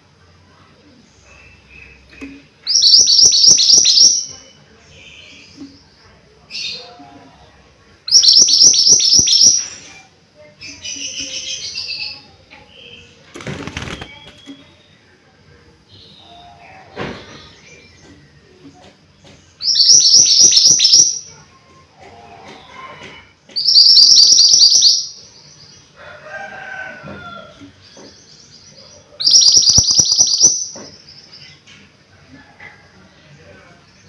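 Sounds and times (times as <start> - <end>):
songbird singing: 0.5 - 7.2, 8.0 - 13.3, 13.9 - 31.8.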